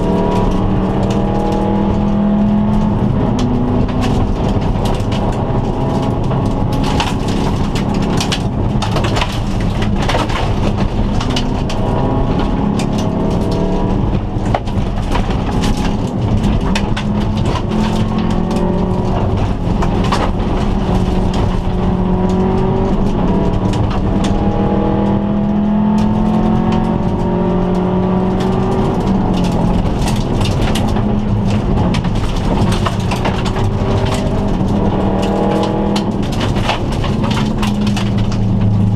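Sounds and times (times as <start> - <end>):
car engine revving through gears: 0.0 - 38.9
gravel rattling against car: 0.0 - 38.9.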